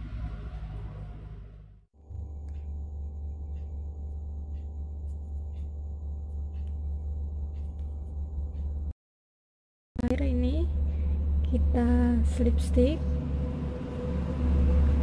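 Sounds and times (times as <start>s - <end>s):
steady low hum: 0.0s - 9.0s, 10.0s - 15.0s.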